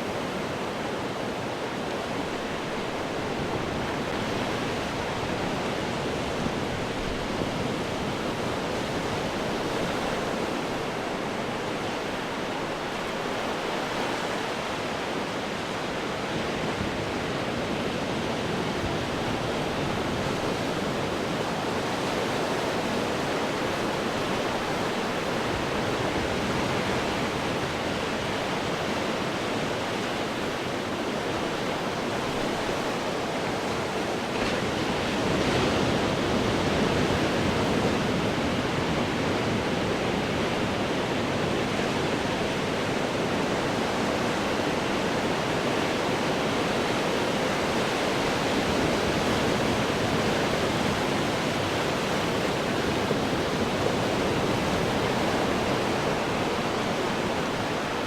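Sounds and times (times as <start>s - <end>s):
ocean waves breaking on rocks: 0.0s - 58.0s.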